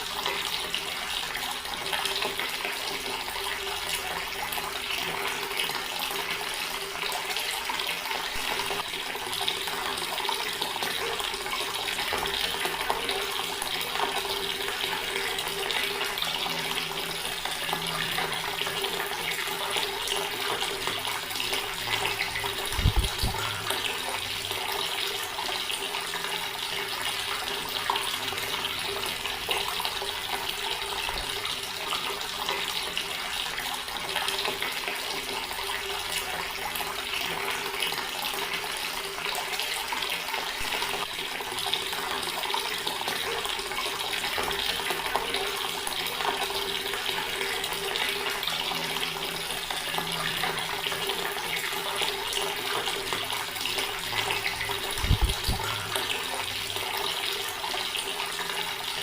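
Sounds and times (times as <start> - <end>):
tap water pouring into basin: 0.0 - 59.0.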